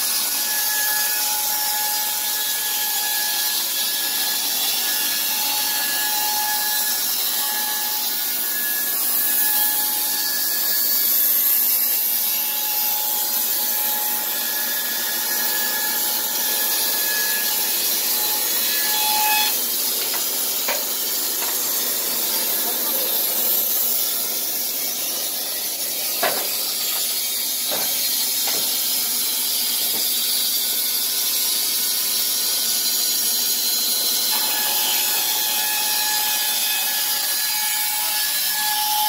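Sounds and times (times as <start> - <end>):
saw whine: 0.0 - 39.0
band sawmill hissing: 2.2 - 37.6.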